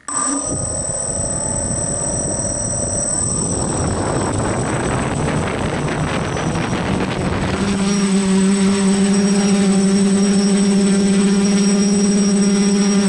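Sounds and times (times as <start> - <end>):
quadcopter motors humming: 0.0 - 13.0.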